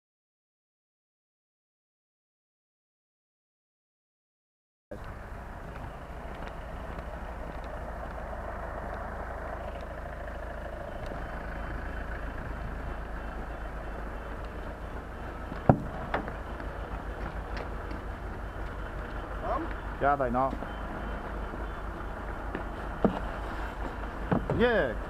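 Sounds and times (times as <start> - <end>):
truck engine rumbling: 4.9 - 25.0.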